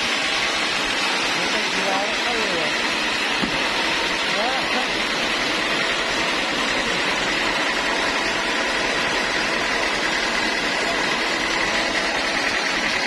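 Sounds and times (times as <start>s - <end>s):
sawmill machinery drone: 0.0s - 13.0s
thin steady whine: 0.0s - 13.0s.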